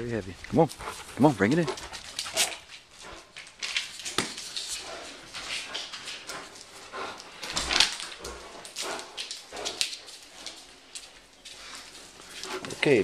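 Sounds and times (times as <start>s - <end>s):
dog claws clicking on wood floor: 0.4s - 13.0s.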